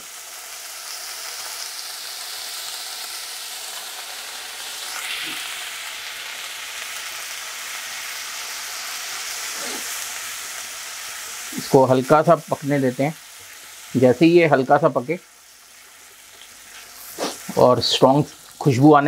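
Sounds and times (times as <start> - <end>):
paste sizzling in hot butter: 0.0 - 18.9.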